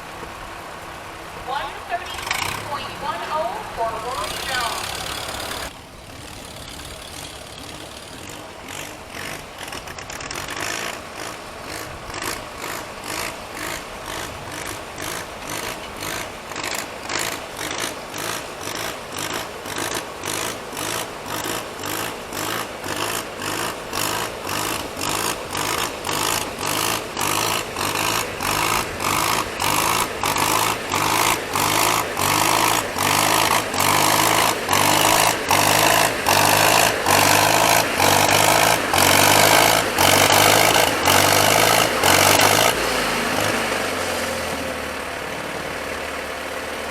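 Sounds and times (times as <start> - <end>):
tractor engine pulsing exhaust: 0.0 - 46.9.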